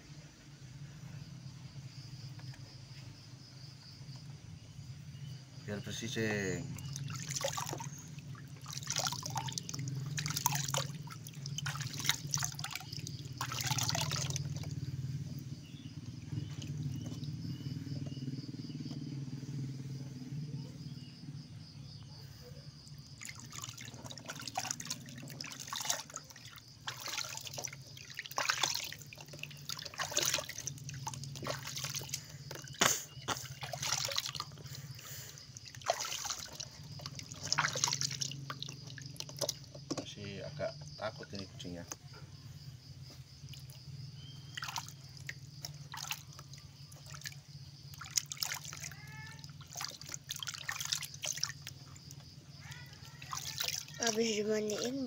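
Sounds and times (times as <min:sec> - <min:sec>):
water splashing and dribbling: 0:05.2 - 0:19.2, 0:22.7 - 0:42.1, 0:43.1 - 0:55.0.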